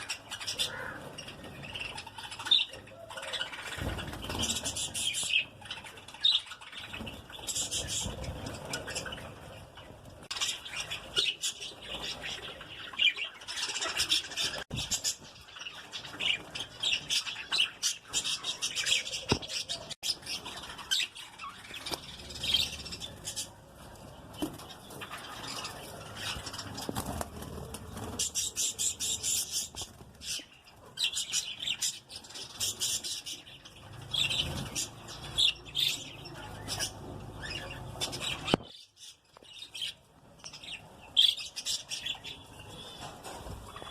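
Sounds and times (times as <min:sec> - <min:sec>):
lovebirds chattering and squawking: 0:00.0 - 0:43.9.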